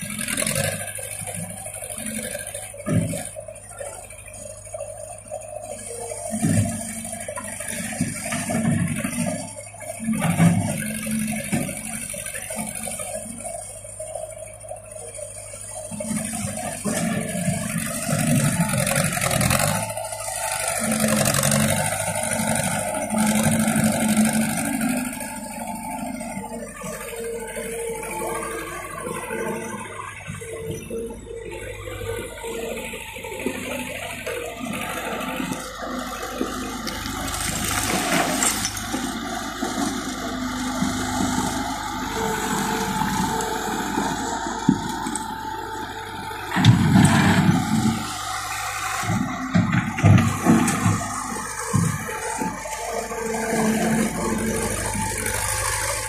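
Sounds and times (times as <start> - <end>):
loader engine revving: 0.0 - 56.0.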